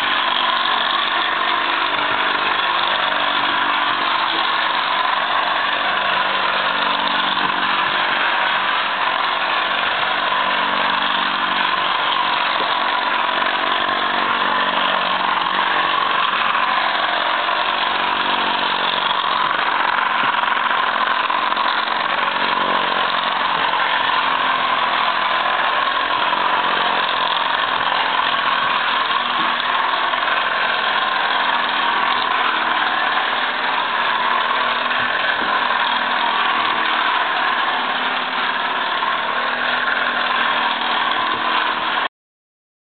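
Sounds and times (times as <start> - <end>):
traction engine running: 0.0 - 42.1.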